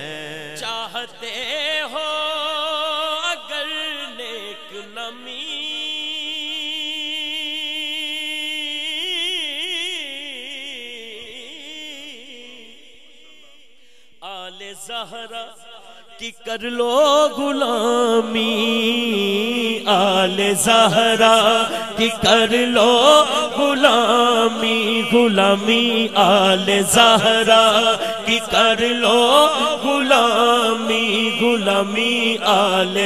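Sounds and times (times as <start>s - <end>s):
man reciting melismatic chant: 0.0s - 33.0s.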